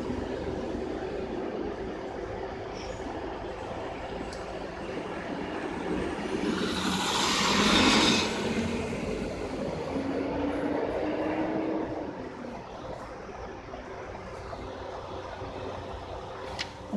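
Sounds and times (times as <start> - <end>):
low engine hum: 0.0 - 16.9
vehicle passing: 0.0 - 16.9.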